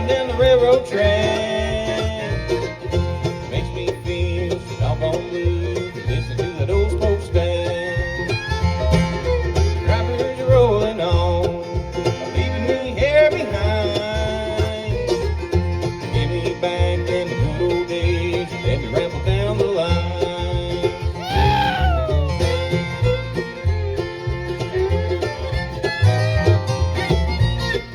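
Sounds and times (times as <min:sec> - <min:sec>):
bluegrass band playing: 0:00.0 - 0:27.9.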